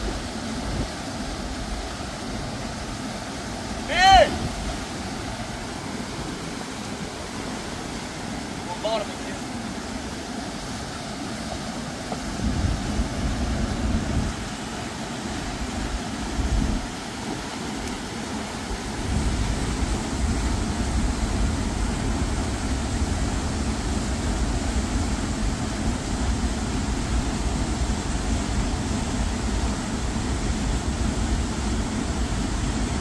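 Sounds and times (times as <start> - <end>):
whitewater roaring from spillway: 0.0 - 33.0.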